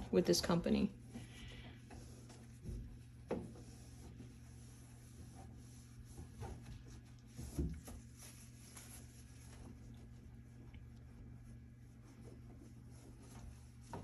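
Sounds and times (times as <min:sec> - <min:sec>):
steady low hum: 0:00.0 - 0:14.0
cloth rubbing a surface: 0:01.2 - 0:14.0.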